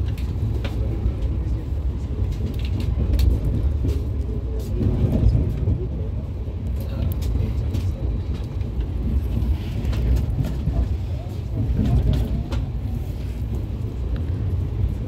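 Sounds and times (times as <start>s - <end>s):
train rumbling inside coach: 0.0s - 15.0s.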